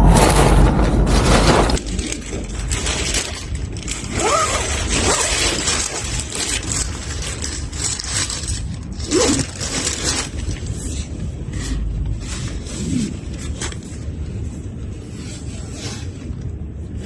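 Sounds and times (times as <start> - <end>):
wind buffeting tent: 0.0 - 17.0
wind whistles: 0.0 - 17.0
tent fabric rustling: 1.1 - 17.0.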